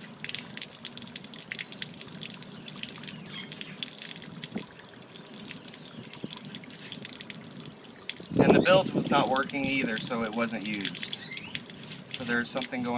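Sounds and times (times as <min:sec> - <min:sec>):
water draining onto concrete: 0:00.0 - 0:12.9
droplets ticking: 0:00.1 - 0:12.9.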